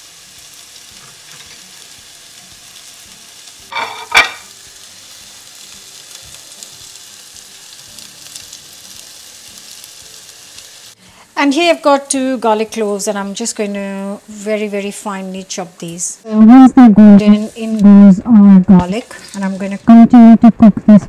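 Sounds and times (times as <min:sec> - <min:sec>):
hot oil sizzling: 0:00.0 - 0:20.4.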